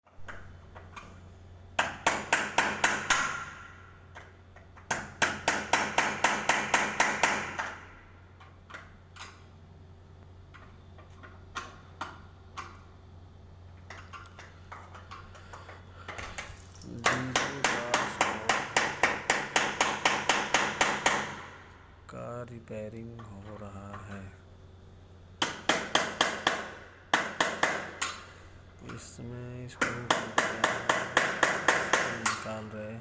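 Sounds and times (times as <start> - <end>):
steady low hum: 0.1 - 33.0.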